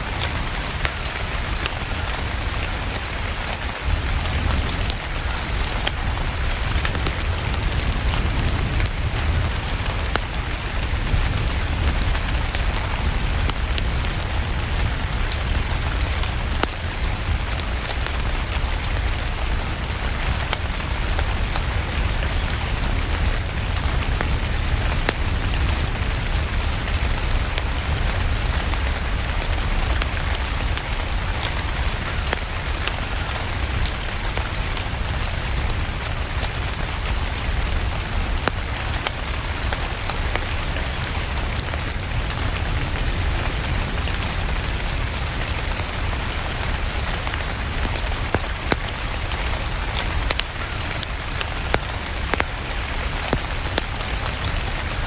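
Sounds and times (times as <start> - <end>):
steady rain falling: 0.0 - 55.0
wood fire crackling and popping: 0.0 - 55.0.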